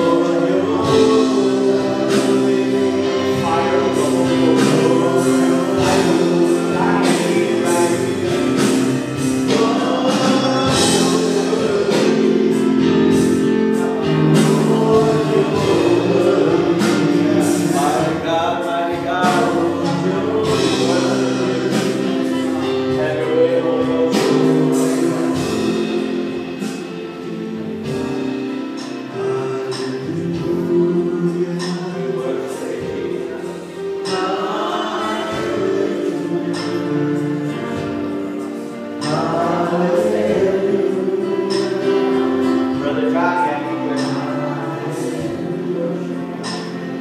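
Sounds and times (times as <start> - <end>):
drum kit and cymbals: 0.0 - 47.0
people singing: 0.0 - 47.0.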